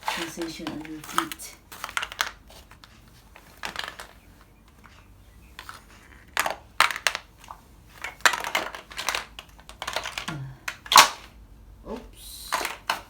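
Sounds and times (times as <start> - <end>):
plastic blocks clacking underfoot: 0.0 - 11.4, 12.5 - 13.0.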